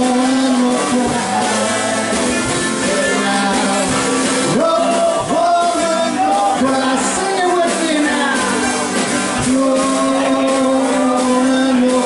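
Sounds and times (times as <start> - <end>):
acoustic guitar: 0.0 - 12.0
drums: 0.0 - 12.0
man singing: 0.0 - 12.0.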